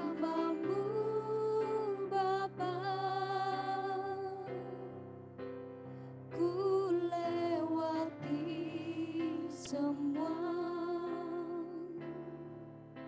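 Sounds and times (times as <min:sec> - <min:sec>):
women singing worship song: 0:00.0 - 0:04.9, 0:06.4 - 0:12.0.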